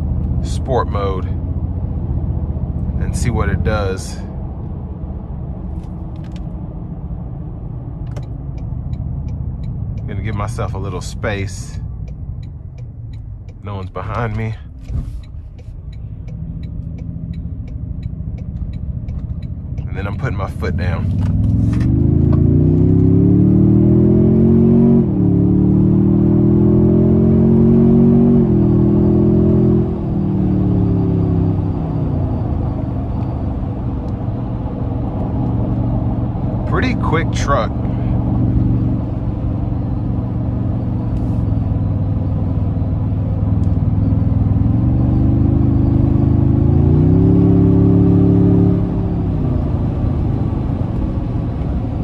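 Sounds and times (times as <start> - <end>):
engine accelerating with upshifts: 0.0 - 52.0.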